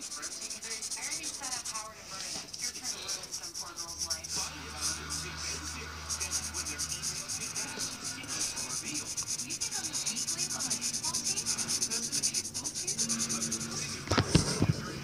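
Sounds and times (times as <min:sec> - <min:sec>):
pencil scratching on paper: 0:00.0 - 0:14.6.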